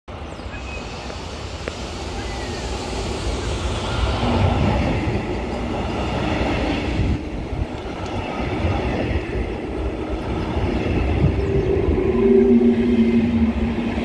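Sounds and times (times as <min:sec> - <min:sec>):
train wheels rumbling on rails: 0:00.1 - 0:14.0.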